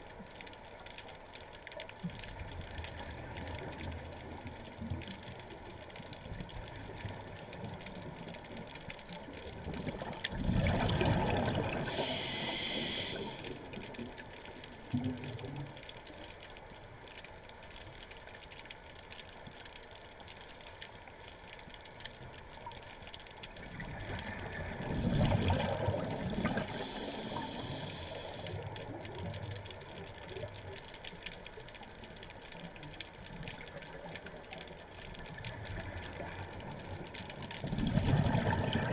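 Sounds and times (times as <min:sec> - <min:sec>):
muffled underwater rush of water: 0:00.0 - 0:38.9.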